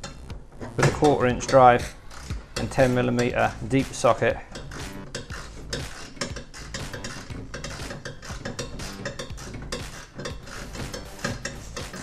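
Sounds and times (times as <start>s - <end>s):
ratchet clicking: 0.0s - 12.0s.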